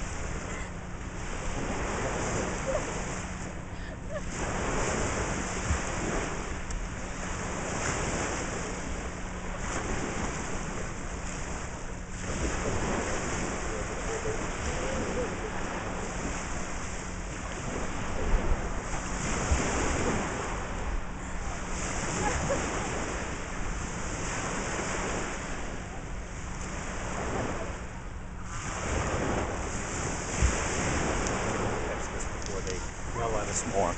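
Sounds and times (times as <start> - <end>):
waves washing onto sand: 0.0 - 33.9
wind buffeting microphone: 0.0 - 33.9.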